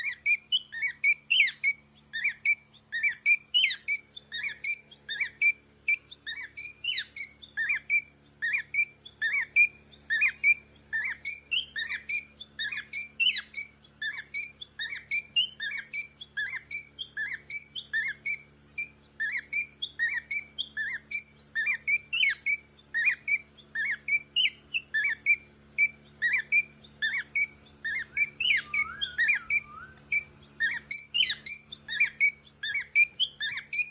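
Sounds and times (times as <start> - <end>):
bird squeaky calls: 0.0 - 33.9.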